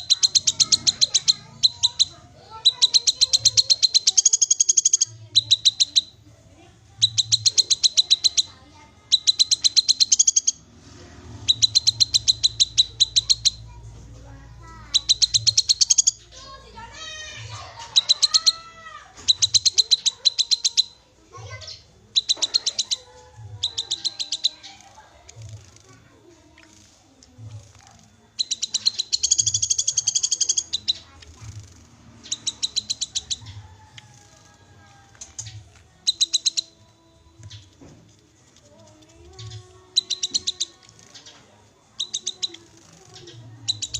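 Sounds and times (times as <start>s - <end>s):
bird high chirps: 0.0s - 6.2s, 7.0s - 10.6s, 11.4s - 13.8s, 14.7s - 25.8s, 26.7s - 37.9s, 38.6s - 43.9s.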